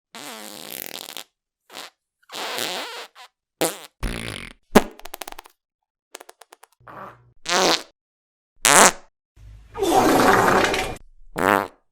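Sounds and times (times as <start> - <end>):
farts: 0.1 - 5.4, 6.2 - 7.9, 8.6 - 9.1, 9.8 - 11.9.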